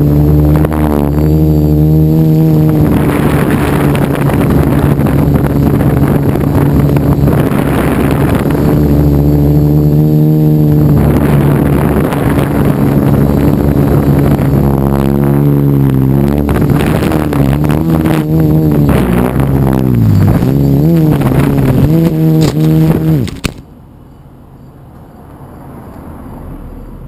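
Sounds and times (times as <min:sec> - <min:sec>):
quadcopter motors whining: 0:00.0 - 0:23.6.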